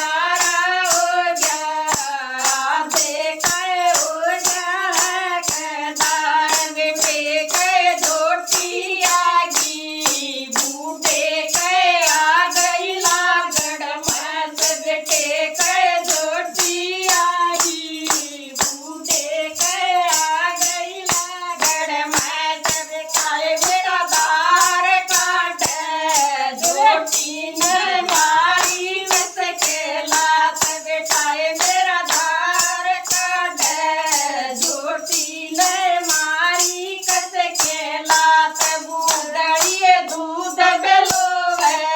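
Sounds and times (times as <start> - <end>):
person singing devotional song: 0.0 - 41.9
sharp percussion beat: 0.0 - 41.9.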